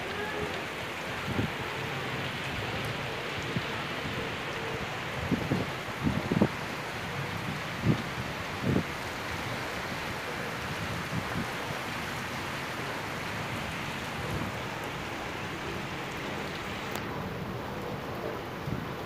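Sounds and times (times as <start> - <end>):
heavy rain on concrete roof: 0.0 - 19.0
wind gusting on microphone: 0.7 - 19.0.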